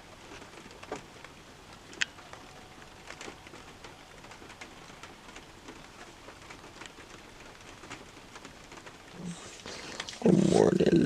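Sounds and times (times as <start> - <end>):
raindrops ticking: 0.0 - 11.0
steady rain hiss: 0.0 - 11.0.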